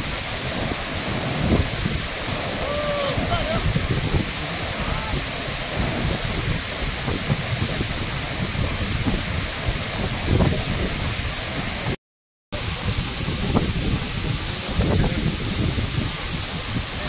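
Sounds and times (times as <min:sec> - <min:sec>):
waterfall rushing: 0:00.0 - 0:12.0, 0:12.6 - 0:17.0
wind buffeting the microphone: 0:00.0 - 0:12.0, 0:12.6 - 0:17.0.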